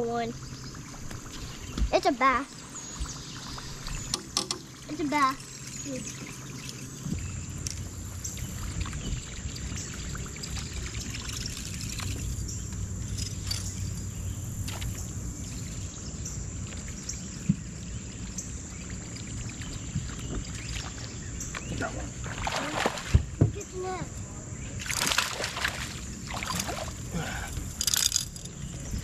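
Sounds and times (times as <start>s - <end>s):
water trickling against hull: 0.0s - 24.1s, 24.8s - 29.0s
low boat rumble: 0.0s - 29.0s.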